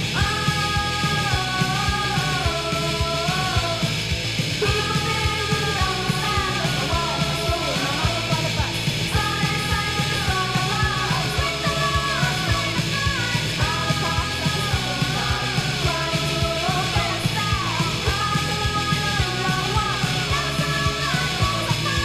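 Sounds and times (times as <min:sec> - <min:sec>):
person singing: 0:00.0 - 0:04.0, 0:04.6 - 0:22.0
bass guitar: 0:00.0 - 0:22.0
electric guitar: 0:00.0 - 0:22.0
steady drum beat: 0:00.0 - 0:22.0.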